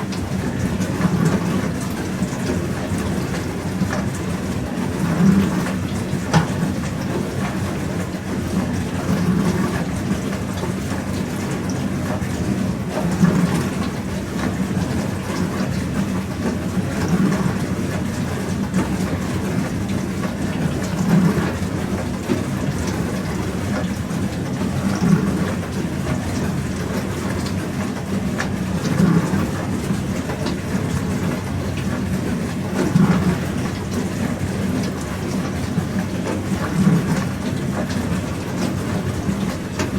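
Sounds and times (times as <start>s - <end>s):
pump low hum: 0.0s - 39.9s.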